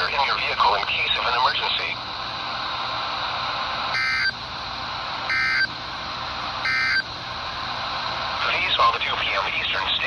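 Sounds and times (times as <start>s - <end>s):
static hiss: 0.0s - 10.0s.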